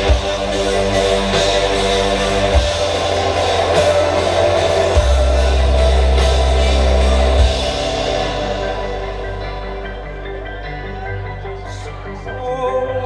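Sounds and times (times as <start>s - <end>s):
live band playing: 0.0s - 12.9s
low bass notes: 0.0s - 13.0s.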